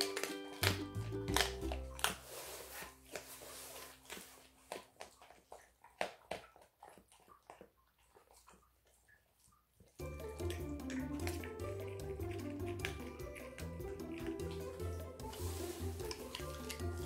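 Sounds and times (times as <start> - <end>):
bone cracking: 0.0 - 7.6, 10.0 - 17.0
dog crunching and chewing: 0.0 - 17.0.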